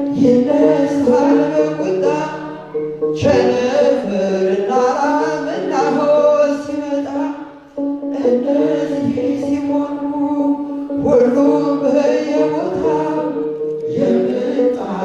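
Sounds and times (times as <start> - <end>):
instrumental backing: 0.0 - 15.0
person singing a hymn: 0.0 - 15.0.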